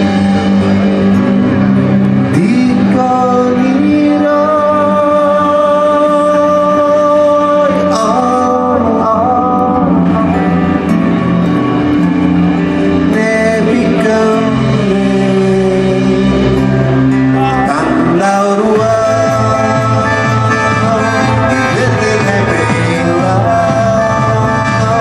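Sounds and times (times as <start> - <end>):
acoustic guitar: 0.0 - 25.0
drums: 0.0 - 25.0
keyboards: 0.0 - 25.0
man singing: 2.2 - 12.0, 12.6 - 25.0.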